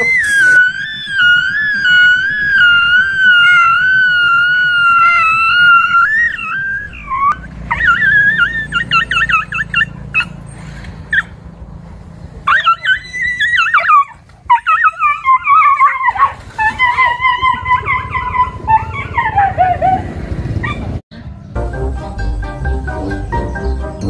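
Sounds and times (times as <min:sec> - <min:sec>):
dog whining and yelping: 0:00.0 - 0:11.4, 0:12.4 - 0:21.0.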